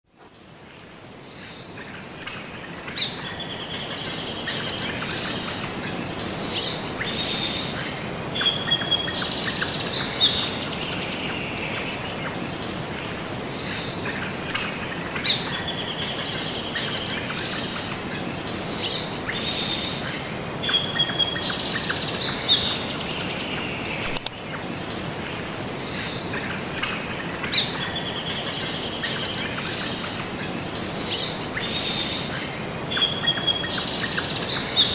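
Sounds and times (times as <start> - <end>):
steady outdoor hiss: 0.1 - 34.9
birds singing and chirping: 0.4 - 34.9.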